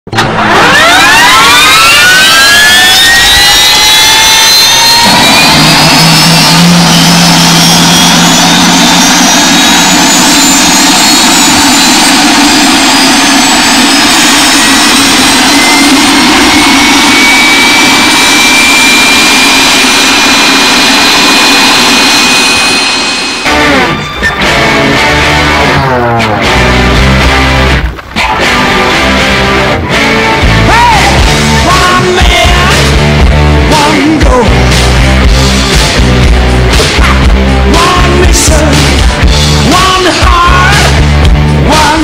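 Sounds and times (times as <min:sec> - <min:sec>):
motorcycle engine accelerating: 0:00.1 - 0:39.9.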